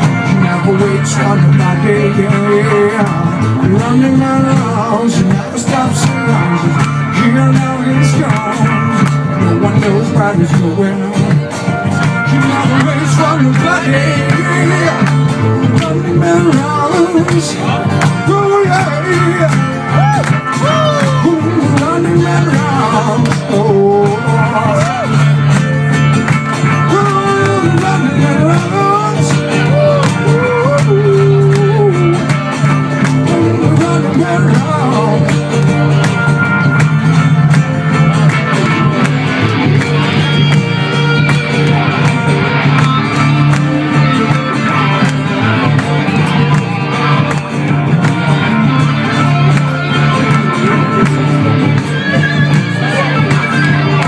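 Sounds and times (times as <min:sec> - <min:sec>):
strummed acoustic guitar: 0:00.0 - 0:54.0
wavering melodic lead line: 0:00.0 - 0:54.0.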